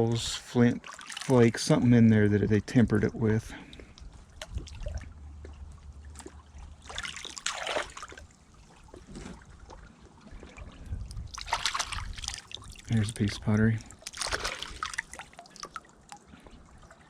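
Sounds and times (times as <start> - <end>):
river water trickling and splashing: 0.4 - 17.0.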